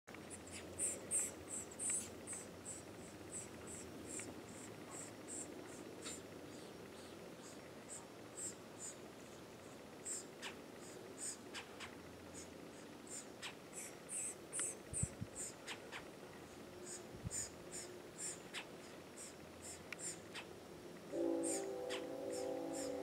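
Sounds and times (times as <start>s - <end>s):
woodpecker fledglings calling: 0.1s - 20.7s, 21.4s - 23.0s.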